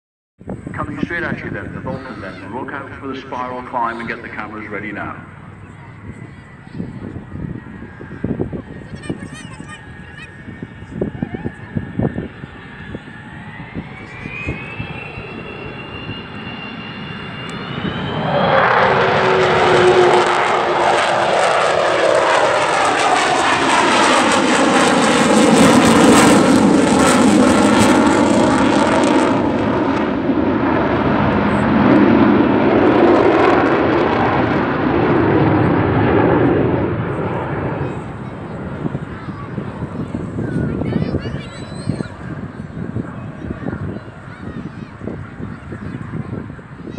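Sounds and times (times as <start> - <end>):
jet aircraft whine: 0.4 - 46.9
loud crackling jet noise: 0.4 - 46.9.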